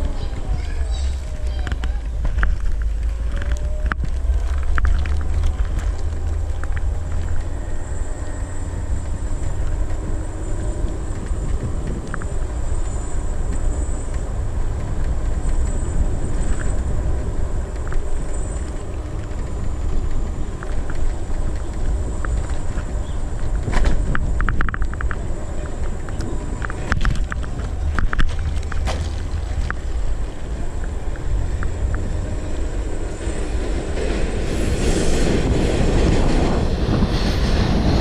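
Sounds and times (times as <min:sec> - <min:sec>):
low rumble: 0:00.0 - 0:38.0
road noise from small wheels: 0:00.0 - 0:38.0
wind rush over microphone: 0:00.0 - 0:38.0.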